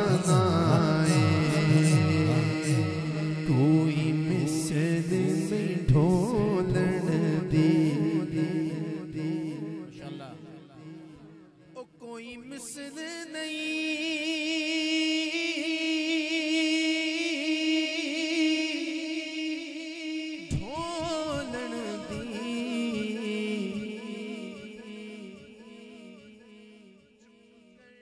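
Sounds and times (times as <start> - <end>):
man singing without instruments: 0.0 - 28.0.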